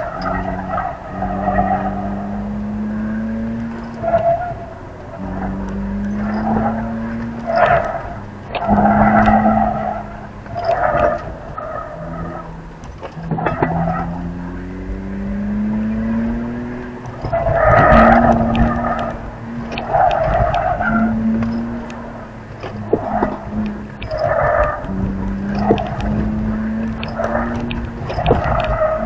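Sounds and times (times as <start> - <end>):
car engine accelerating: 0.0 - 29.0
tyres squealing: 0.0 - 29.0.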